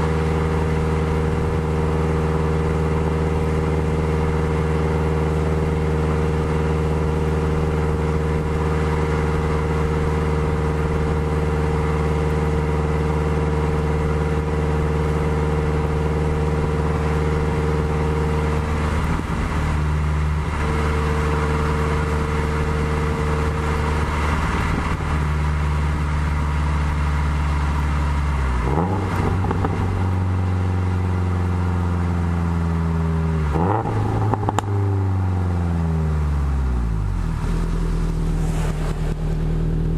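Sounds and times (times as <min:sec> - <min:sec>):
car exhaust note: 0:00.0 - 0:39.9.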